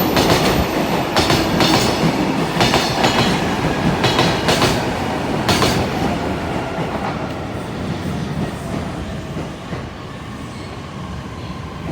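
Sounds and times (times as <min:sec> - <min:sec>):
train wheels clacking on rail joints: 0:00.0 - 0:09.9
train rolling rumble: 0:00.0 - 0:11.9.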